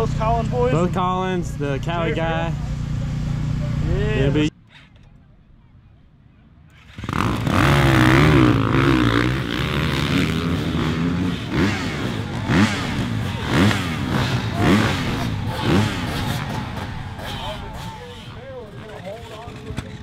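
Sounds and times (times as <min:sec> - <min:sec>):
dirt bike engines revving: 0:00.0 - 0:05.3, 0:06.7 - 0:20.0.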